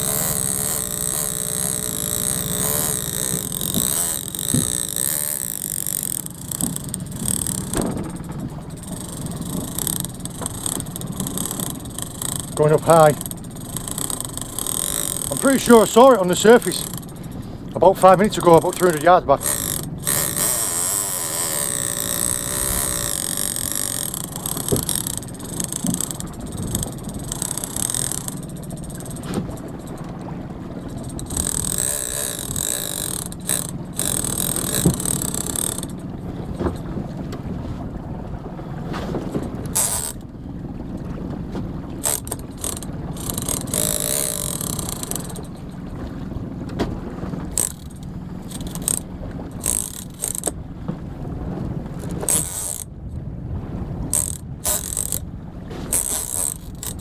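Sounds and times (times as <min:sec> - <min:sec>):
fishing reel ratchet clicks: 0:00.0 - 0:30.2, 0:30.8 - 0:36.8, 0:39.5 - 0:40.3, 0:42.0 - 0:45.9, 0:47.5 - 0:50.6, 0:52.0 - 0:52.9, 0:54.1 - 0:55.2, 0:55.9 - 0:57.0.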